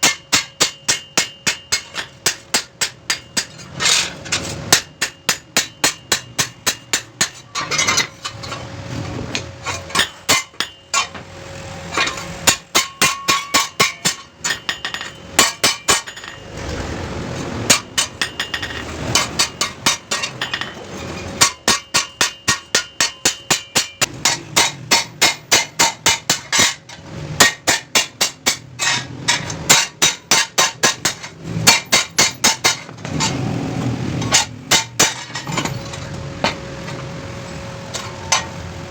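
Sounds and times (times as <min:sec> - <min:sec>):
hammer striking metal blade: 0:00.0 - 0:08.4, 0:09.7 - 0:11.3, 0:11.9 - 0:16.4, 0:17.7 - 0:33.4, 0:34.2 - 0:37.0.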